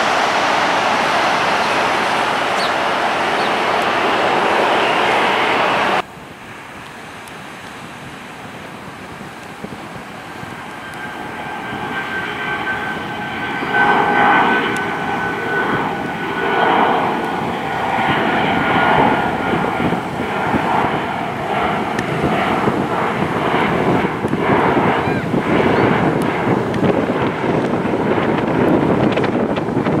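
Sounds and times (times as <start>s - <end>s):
faint high whine: 0.0s - 26.2s
jet engine rumble: 0.0s - 30.0s.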